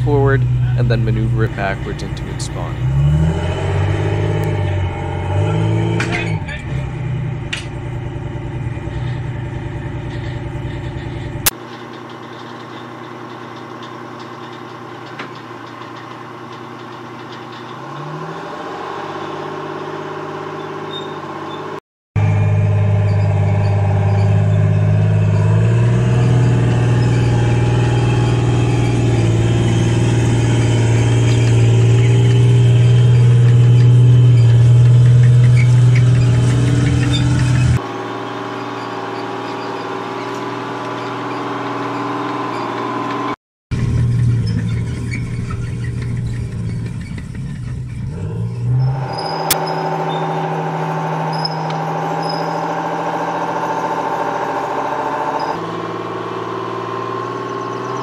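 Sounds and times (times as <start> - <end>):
tracked vehicle diesel engine drone: 0.0 - 58.0.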